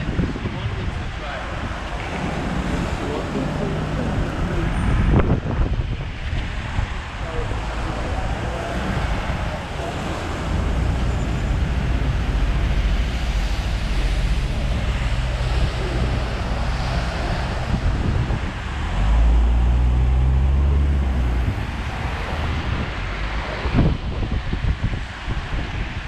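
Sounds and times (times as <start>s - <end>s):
low traffic rumble: 0.0s - 26.0s
tyres hissing on wet road: 0.0s - 26.0s.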